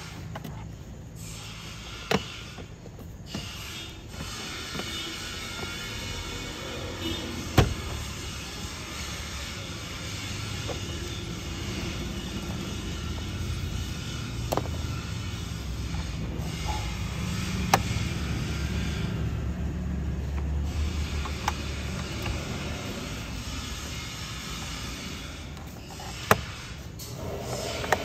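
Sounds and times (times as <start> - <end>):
low vehicle rumble: 3.8 - 28.0.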